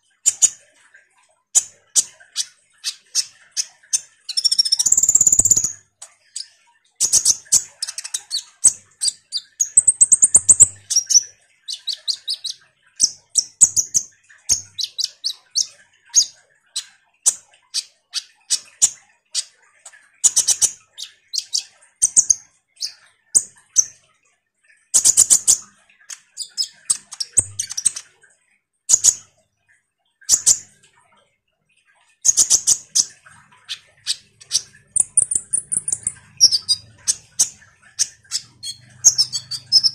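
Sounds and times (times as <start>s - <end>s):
bird chirping and trilling: 0.2s - 0.7s, 1.6s - 24.0s, 24.9s - 28.1s, 32.2s - 39.9s.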